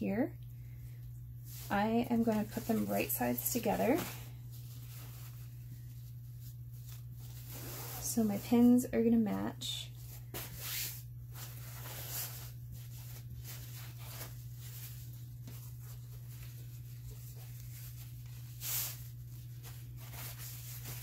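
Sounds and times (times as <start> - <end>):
steady low hum: 0.0 - 21.0
fabric rustling: 1.4 - 8.9, 10.0 - 21.0.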